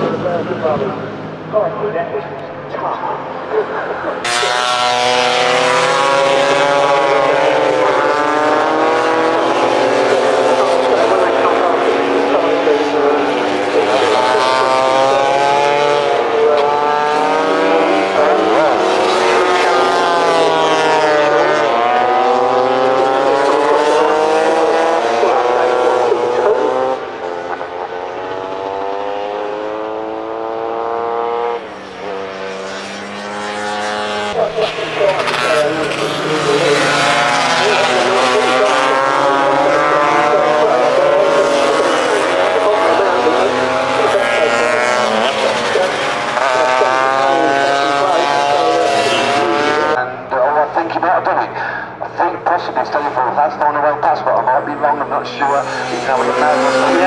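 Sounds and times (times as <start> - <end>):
scooter engines revving high: 0.0 - 57.0.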